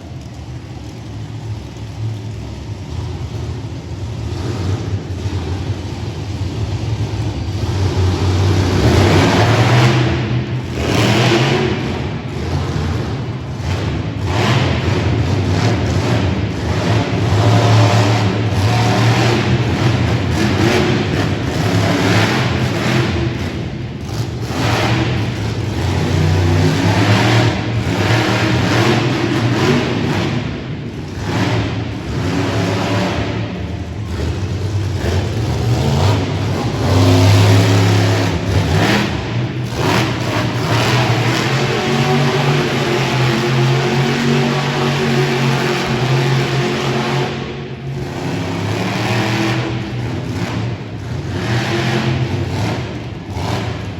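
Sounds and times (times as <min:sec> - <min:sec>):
truck engine revving loudly: 0:00.0 - 0:53.9.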